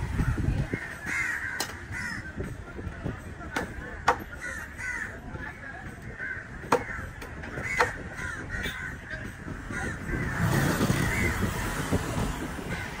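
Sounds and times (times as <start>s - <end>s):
crows cawing: 0.7s - 2.6s, 3.5s - 11.8s, 12.7s - 13.0s.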